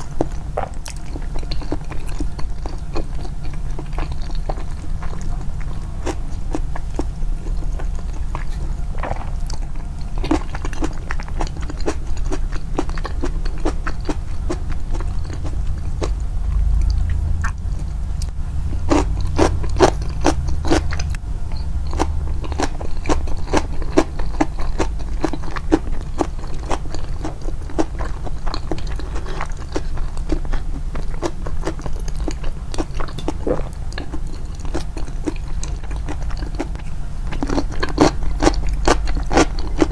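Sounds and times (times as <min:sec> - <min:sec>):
chewing and crunching food: 0:00.0 - 0:39.9
low steady hum: 0:00.0 - 0:39.9.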